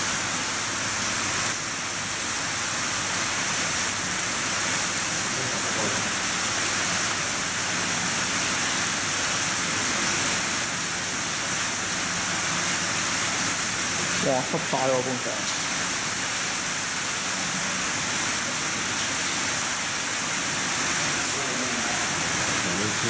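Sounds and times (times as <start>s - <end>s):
sprinkler spraying water: 0.0s - 23.0s.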